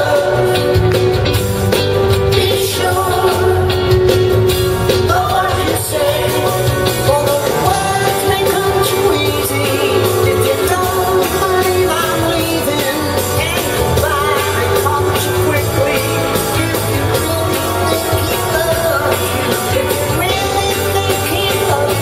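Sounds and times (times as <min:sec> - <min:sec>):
electric guitars: 0:00.0 - 0:22.0
lead singer singing: 0:00.0 - 0:22.0
live soul band playing: 0:00.0 - 0:22.0.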